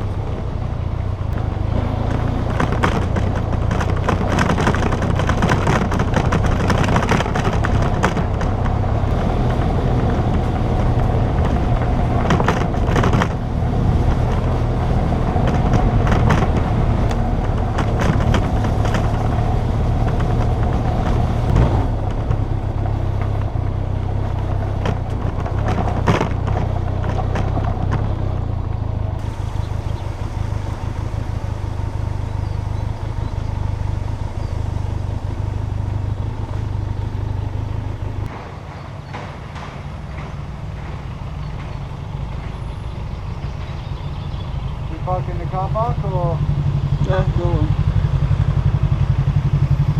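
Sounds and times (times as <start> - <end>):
motorcycle engine running: 0.0 - 38.3, 40.8 - 49.9
wind noise: 0.0 - 41.0
knocks and clatter: 1.3 - 43.8.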